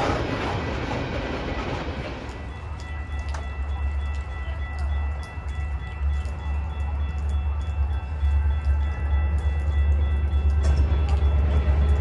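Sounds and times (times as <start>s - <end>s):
train passing: 0.0s - 12.0s.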